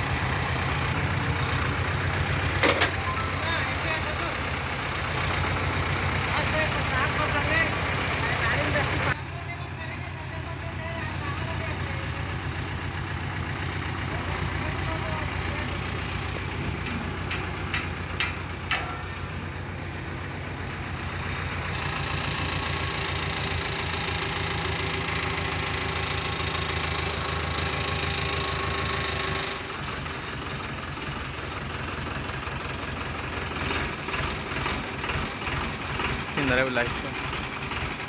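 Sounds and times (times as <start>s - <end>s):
crane diesel engine running: 0.0s - 38.0s.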